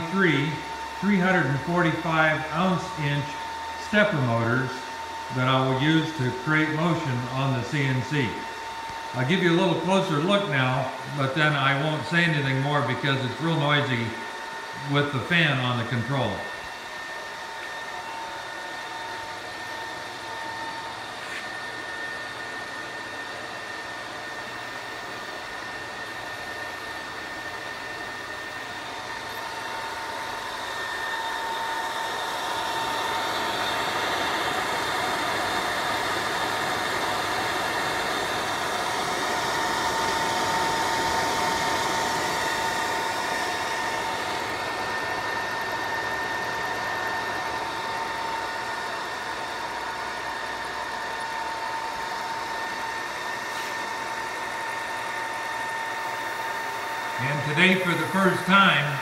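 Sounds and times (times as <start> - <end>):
cooling fan whirring: 0.0 - 59.0.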